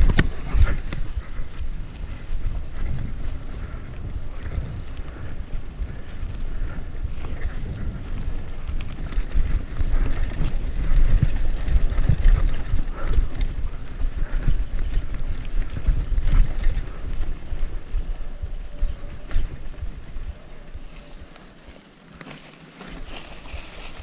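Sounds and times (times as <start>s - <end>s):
wind buffeting microphone: 0.0s - 21.8s, 22.8s - 24.0s
bike rattling and knocking: 0.0s - 24.0s.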